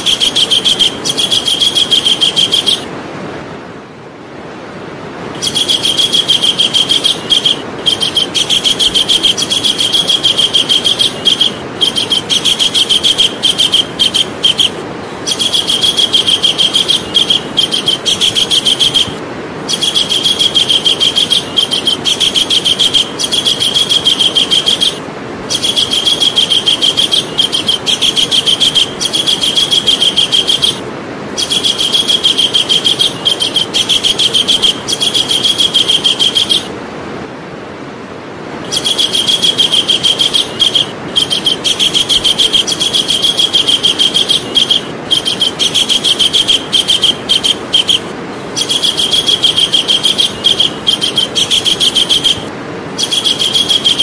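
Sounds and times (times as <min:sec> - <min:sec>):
kingfisher calling: 0:00.0 - 0:02.9, 0:05.4 - 0:36.8, 0:38.6 - 0:54.0
background hiss: 0:00.0 - 0:54.0.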